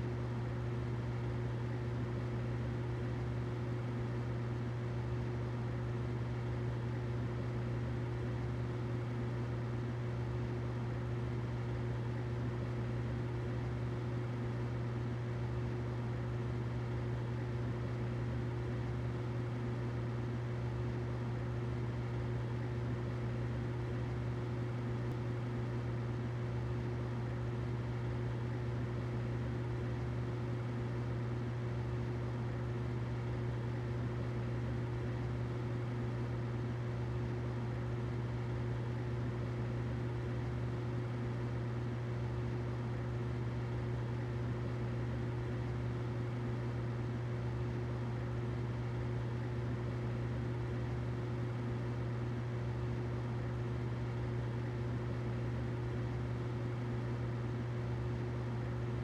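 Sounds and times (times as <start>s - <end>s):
humidifier humming: 0.0s - 59.0s.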